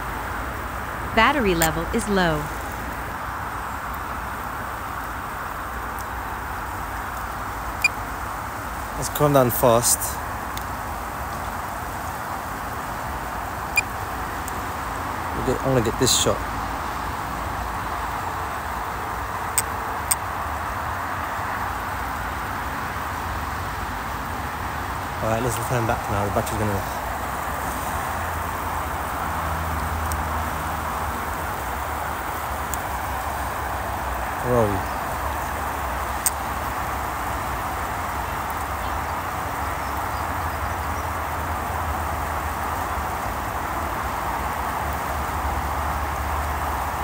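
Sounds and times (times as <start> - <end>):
road traffic: 0.0 - 47.0.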